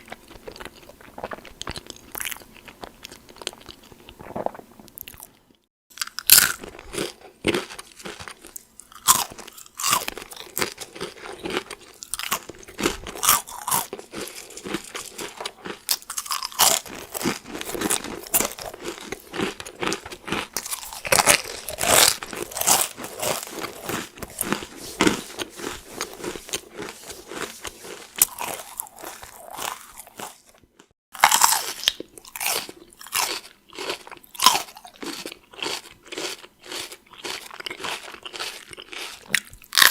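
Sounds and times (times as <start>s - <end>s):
crackers crunched and chewed: 0.0s - 39.9s.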